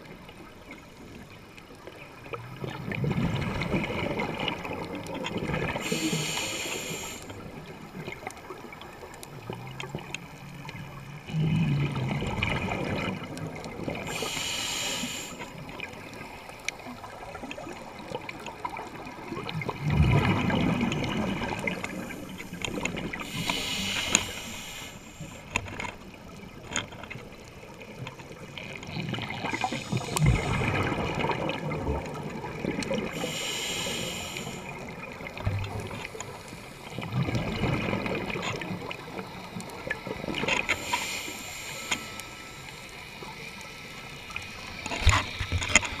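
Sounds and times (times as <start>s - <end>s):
low rumbling water noise: 0.0s - 46.0s
exhaled bubbles underwater: 1.8s - 25.3s, 26.0s - 41.9s.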